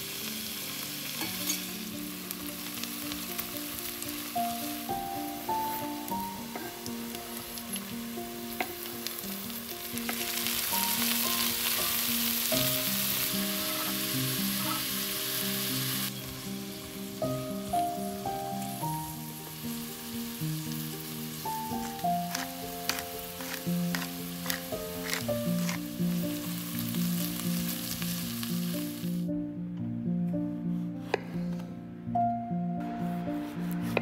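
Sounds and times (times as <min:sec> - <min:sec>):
vegetables sizzling in oil: 0:00.0 - 0:29.3
soft background music: 0:00.0 - 0:34.0.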